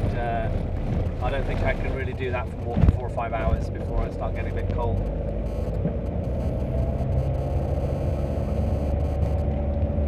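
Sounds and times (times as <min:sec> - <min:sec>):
car engine hum: 0:00.0 - 0:10.0
road noise inside car: 0:00.0 - 0:10.0.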